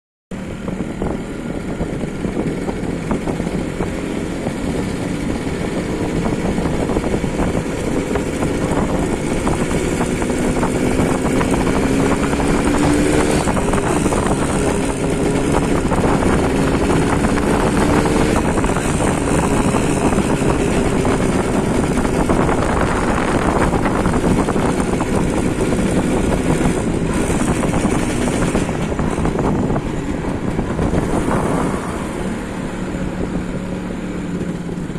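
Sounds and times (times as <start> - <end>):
two-stroke motorcycle engine running: 0.3 - 34.9.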